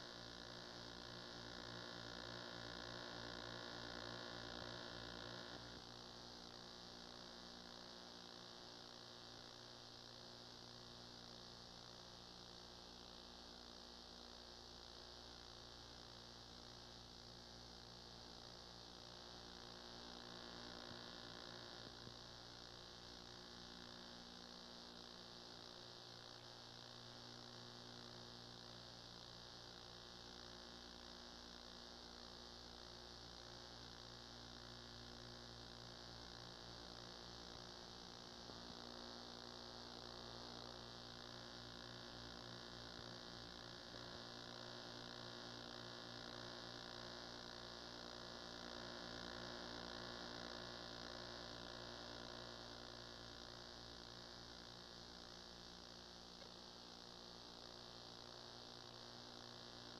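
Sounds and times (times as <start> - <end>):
electrical mains hum: 0.0 - 59.9
tape hiss: 0.0 - 59.9.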